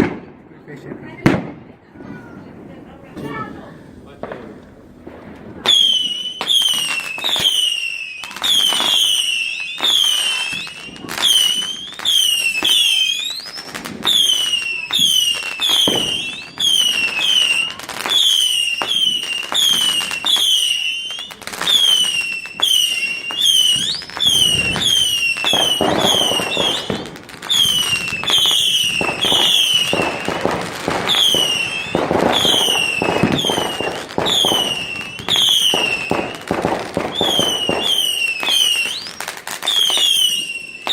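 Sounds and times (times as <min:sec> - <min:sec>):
firework bangs and crackling: 0:00.0 - 0:40.9
whistling fireworks: 0:01.2 - 0:40.9.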